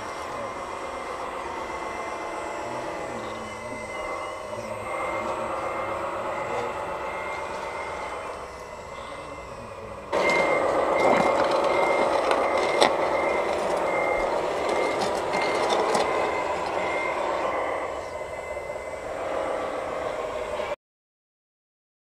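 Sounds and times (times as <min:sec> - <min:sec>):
model machine motor: 0:00.0 - 0:20.7
reversing beeper: 0:00.0 - 0:20.8.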